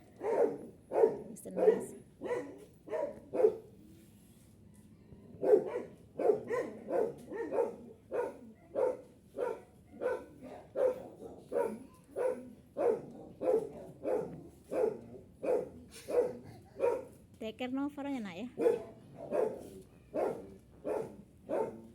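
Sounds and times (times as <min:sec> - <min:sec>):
dog barking: 0:00.1 - 0:03.7, 0:05.4 - 0:17.2, 0:18.5 - 0:21.9.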